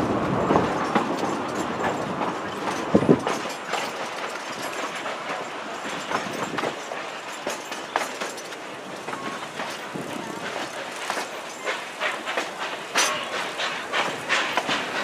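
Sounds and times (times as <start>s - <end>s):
train rattling along track: 0.0s - 15.0s
wheel clicks over rail joints: 0.1s - 15.0s.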